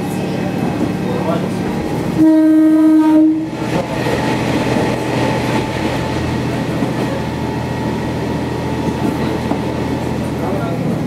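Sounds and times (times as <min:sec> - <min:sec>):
rumble of wheels on rail: 0:00.0 - 0:11.0.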